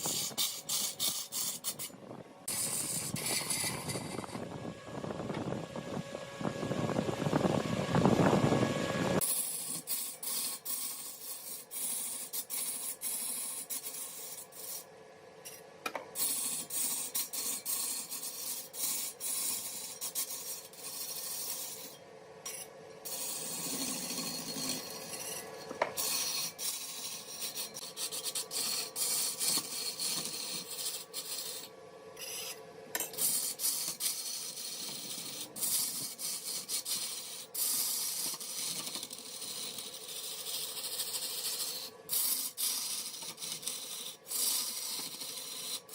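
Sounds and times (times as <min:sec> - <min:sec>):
faint hum: 0:00.0 - 0:10.2, 0:10.9 - 0:45.6
tool scraping spinning wood: 0:00.0 - 0:14.9, 0:15.5 - 0:45.9.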